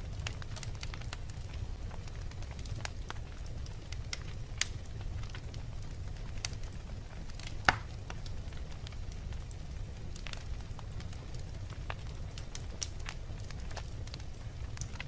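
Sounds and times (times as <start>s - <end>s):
fire crackles and pops: 0.0s - 15.0s
fire flames rumbling: 0.0s - 15.0s.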